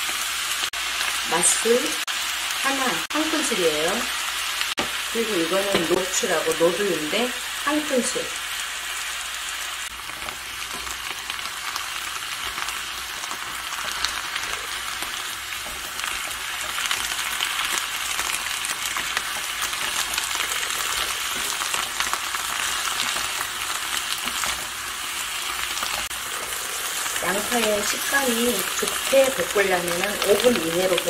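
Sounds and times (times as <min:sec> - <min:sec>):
onions sizzling in a frying pan: 0:00.0 - 0:31.0.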